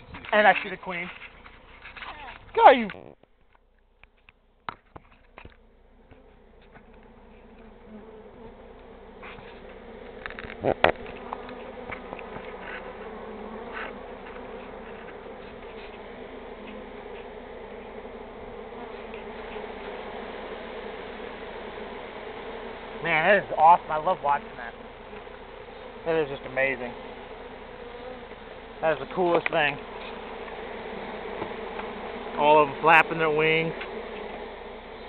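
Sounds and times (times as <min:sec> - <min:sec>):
swarm of bees buzzing: 0:05.4 - 0:35.0.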